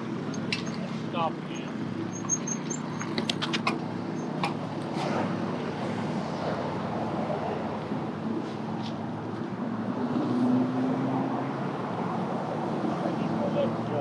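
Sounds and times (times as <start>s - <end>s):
traffic engine hum: 0.0s - 14.0s.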